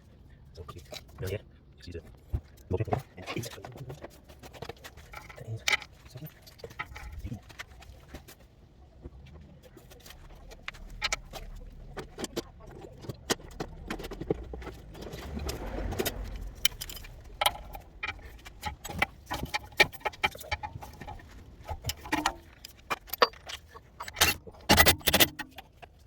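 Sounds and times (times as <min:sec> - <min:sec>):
metal tools clinking and clanking: 0:02.6 - 0:07.6, 0:10.0 - 0:26.0.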